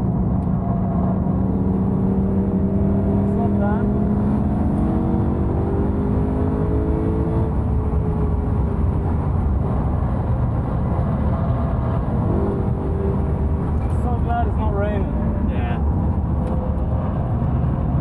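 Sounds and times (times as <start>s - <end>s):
car engine revving: 0.0s - 18.0s
low road rumble: 0.0s - 18.0s.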